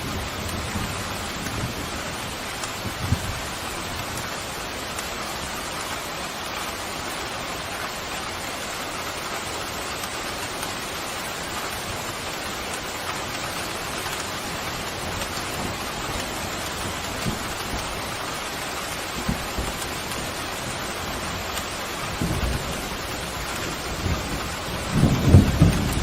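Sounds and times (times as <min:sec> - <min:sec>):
pouring rain: 0:00.0 - 0:26.0
raindrops striking close by: 0:00.0 - 0:26.0.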